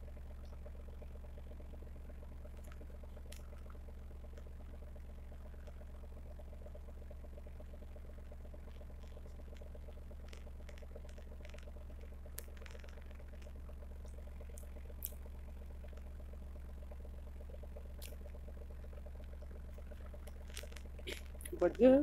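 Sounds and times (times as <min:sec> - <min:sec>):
faint clicks and crackles: 0:00.0 - 0:22.0
low mechanical hum: 0:00.0 - 0:22.0.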